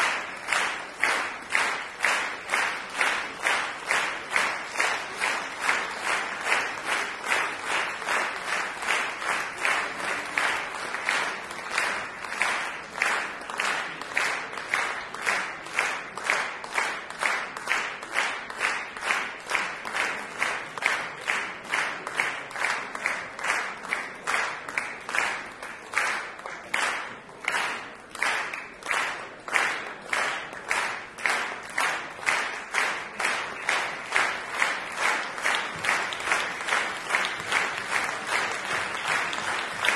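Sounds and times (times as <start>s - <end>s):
audience clapping in unison: 0.0s - 39.9s.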